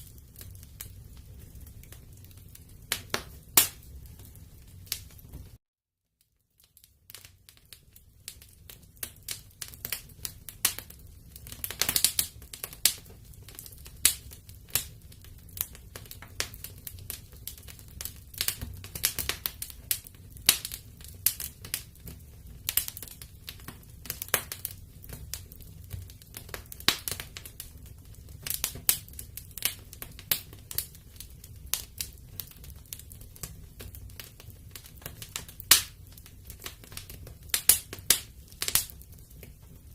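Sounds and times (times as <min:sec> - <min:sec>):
low rumble of flames: 0:00.0 - 0:05.6, 0:06.8 - 0:39.9
wood fire crackling: 0:00.0 - 0:05.6, 0:06.2 - 0:39.9.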